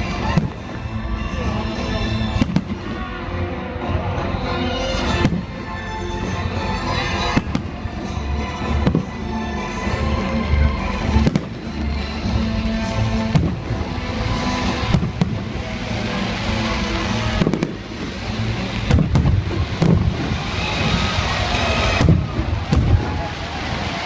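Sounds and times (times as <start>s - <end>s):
fireworks bangs: 0.0s - 3.3s, 3.9s - 9.9s, 11.0s - 24.0s
music over sound system: 0.0s - 24.0s.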